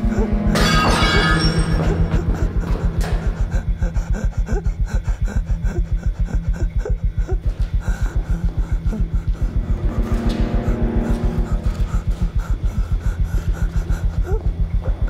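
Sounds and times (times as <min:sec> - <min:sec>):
fast low pulse: 0:00.0 - 0:15.0
man panting heavily: 0:00.0 - 0:15.0.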